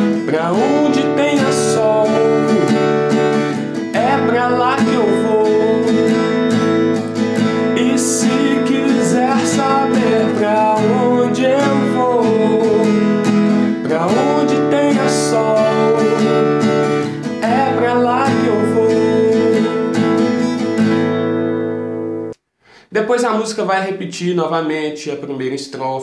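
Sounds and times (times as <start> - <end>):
acoustic guitar strummed: 0.0 - 22.4.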